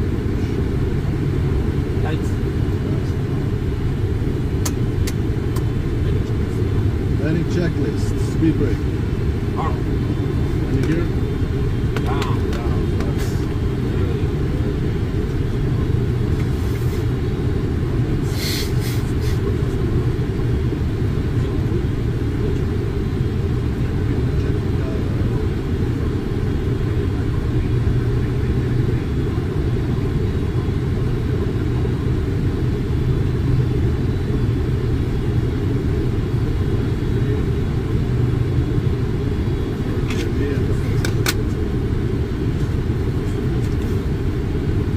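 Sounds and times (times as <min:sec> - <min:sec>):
aircraft engine and airflow rumble: 0:00.0 - 0:44.9.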